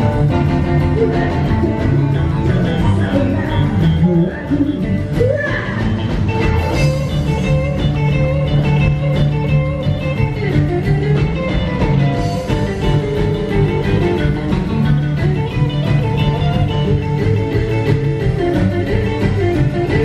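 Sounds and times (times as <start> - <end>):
drums: 0.0 - 20.0
electric and acoustic guitars: 0.0 - 20.0.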